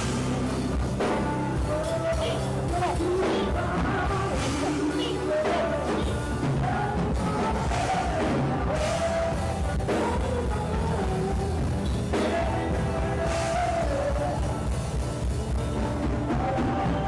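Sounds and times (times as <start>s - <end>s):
band playing worship music: 0.0s - 17.0s
person singing: 0.0s - 17.0s
steady bass: 0.0s - 17.0s.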